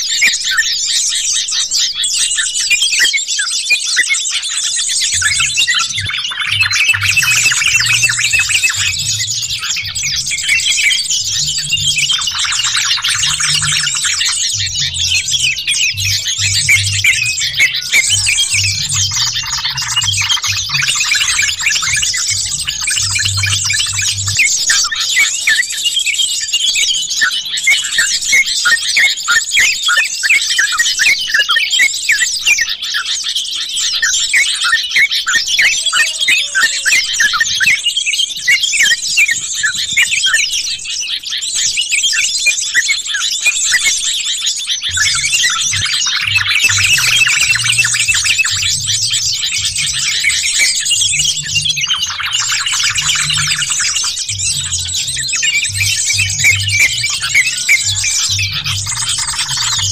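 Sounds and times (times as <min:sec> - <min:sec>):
birds chattering in a flock: 0:00.0 - 0:59.9.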